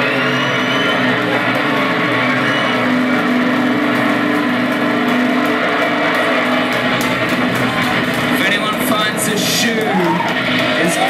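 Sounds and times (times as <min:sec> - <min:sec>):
concert crowd hubbub: 0:00.0 - 0:11.0
guitar amplifier feedback drone: 0:00.0 - 0:11.0.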